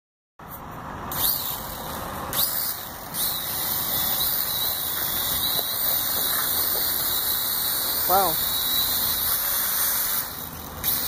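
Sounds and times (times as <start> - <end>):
quadcopter propellers whirring: 0.6 - 11.0.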